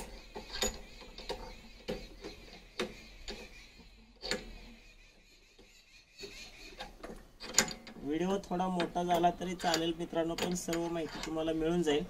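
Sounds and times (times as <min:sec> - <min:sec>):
sharp metallic clicks and knocks: 0:00.0 - 0:12.0.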